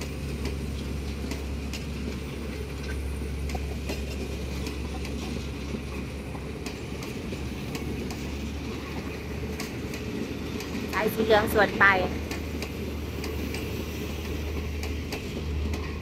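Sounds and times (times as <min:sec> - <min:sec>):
train coaches rumbling past: 0:00.0 - 0:16.0
wheels clacking on track: 0:00.0 - 0:16.0.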